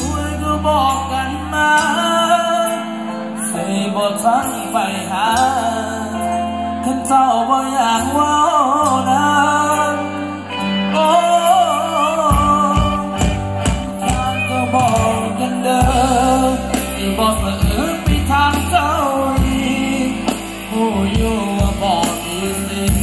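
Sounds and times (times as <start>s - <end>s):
low bass notes: 0.0s - 23.0s
person singing: 0.0s - 23.0s.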